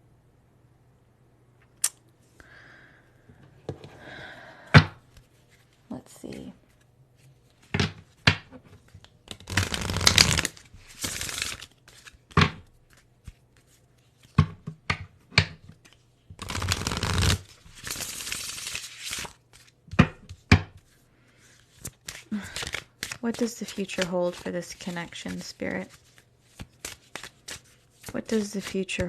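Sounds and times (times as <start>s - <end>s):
cards being shuffled: 5.1s - 29.0s.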